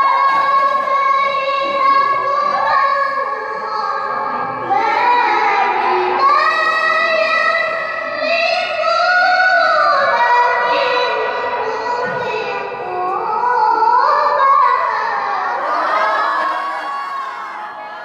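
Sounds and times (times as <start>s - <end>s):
woman reciting melodically: 0.0s - 17.5s.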